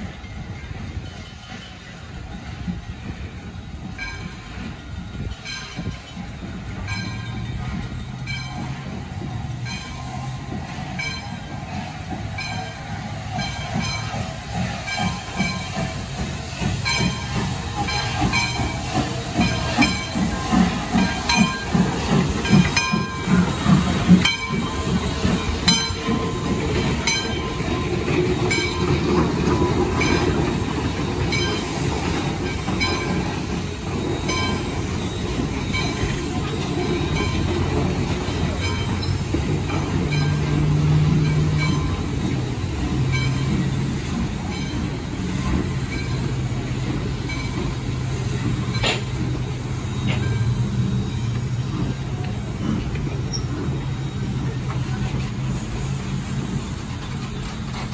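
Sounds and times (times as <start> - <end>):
steam locomotive pulsing: 0.0 - 57.9
train coaches rumbling on rails: 0.0 - 57.9.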